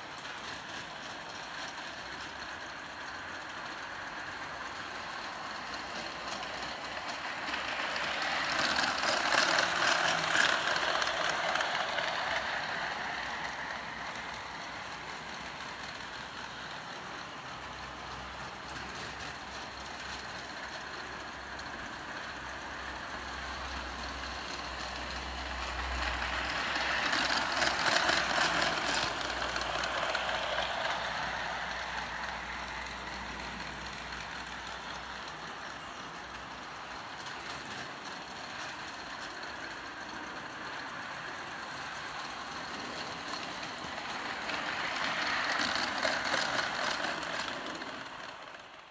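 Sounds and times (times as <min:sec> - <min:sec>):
model train rumbling on rails: 0:00.0 - 0:48.9.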